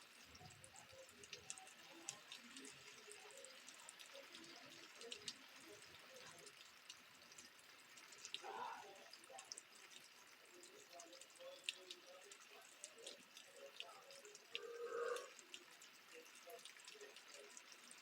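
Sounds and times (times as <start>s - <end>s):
raindrops dripping and ticking: 0.0s - 18.0s
soft rain hiss: 0.0s - 18.0s.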